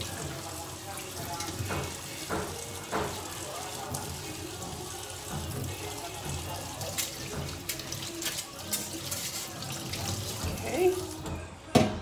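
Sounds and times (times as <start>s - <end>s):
tap water splashing on metal tray: 0.0s - 11.9s.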